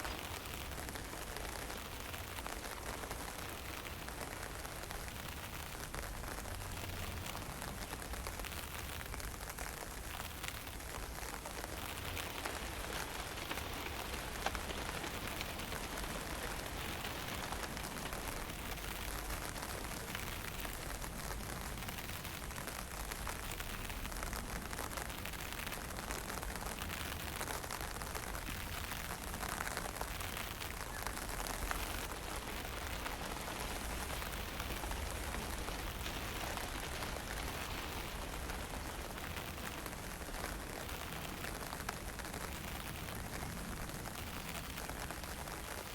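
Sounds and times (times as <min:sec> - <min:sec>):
light rain hissing: 0:00.0 - 0:45.9.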